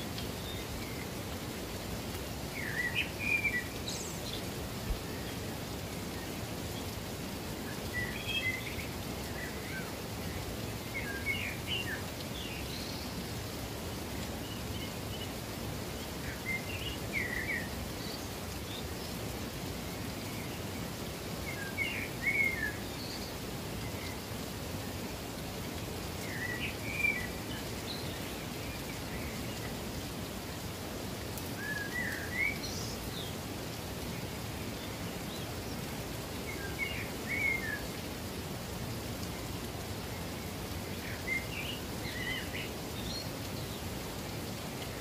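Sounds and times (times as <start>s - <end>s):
running water hiss: 0.0s - 45.0s
songbird chirping: 0.0s - 45.0s.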